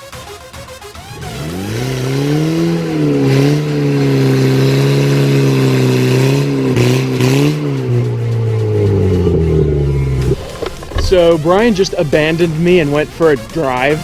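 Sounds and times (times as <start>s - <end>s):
car engine at high revs: 1.0s - 14.0s.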